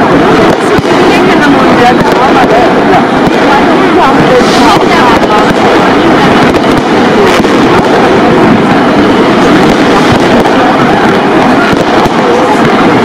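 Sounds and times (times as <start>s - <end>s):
fireworks and firecrackers: 0.0s - 13.0s.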